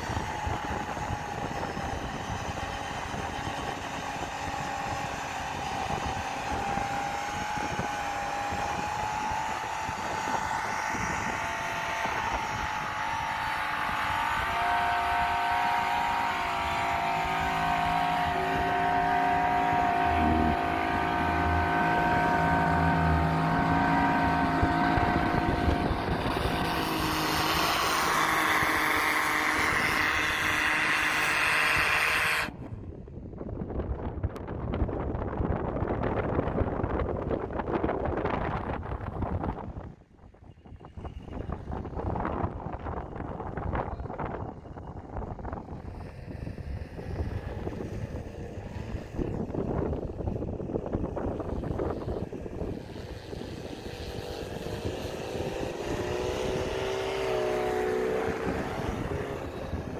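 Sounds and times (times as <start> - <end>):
tyres churning through snow: 0.0 - 32.6, 40.7 - 59.9
off-road vehicle engine revving high: 0.0 - 32.7, 40.7 - 59.9
wind noise: 0.0 - 59.9.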